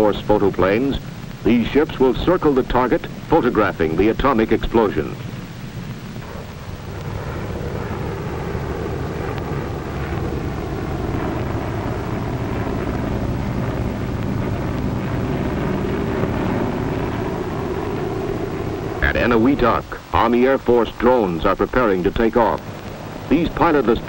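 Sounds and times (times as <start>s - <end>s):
propeller engines droning: 0.0s - 24.0s
rushing wind-like noise: 0.0s - 24.0s.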